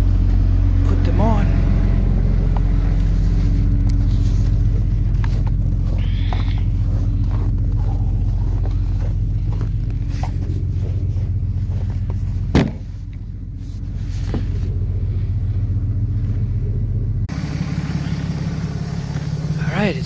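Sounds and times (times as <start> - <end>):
truck engine humming: 0.0 - 20.0.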